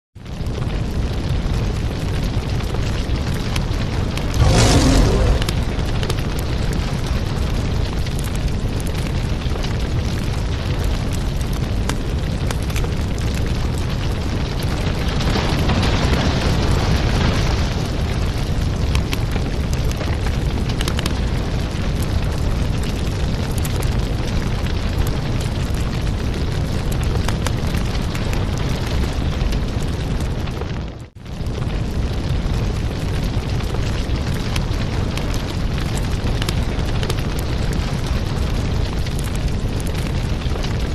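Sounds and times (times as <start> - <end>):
flames rumbling: 0.2 - 40.9.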